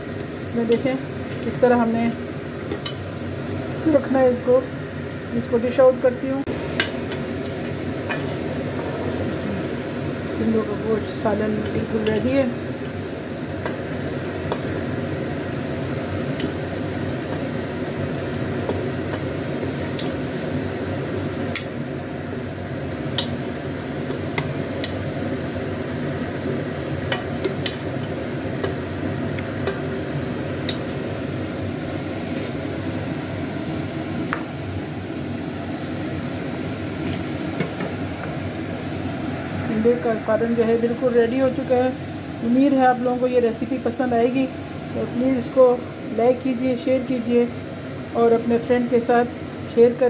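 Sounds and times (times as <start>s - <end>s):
steady background hum: 0.0s - 50.0s.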